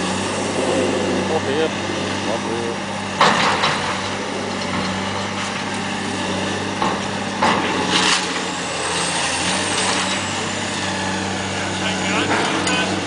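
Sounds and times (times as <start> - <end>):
excavator diesel engine running: 0.0 - 13.0
demolition crunching knocks: 1.2 - 10.5, 11.7 - 13.0.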